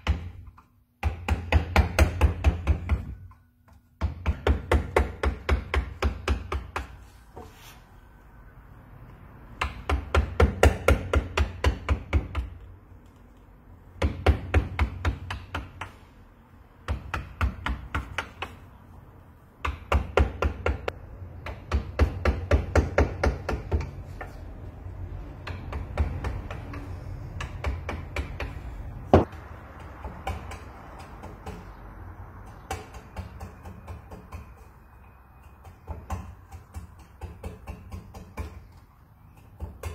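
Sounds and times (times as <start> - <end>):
hammer striking carving gouge: 0.0 - 7.5, 9.6 - 12.7, 14.0 - 16.0, 16.8 - 18.8, 19.6 - 24.3, 25.4 - 31.8, 32.4 - 34.8, 35.4 - 39.9.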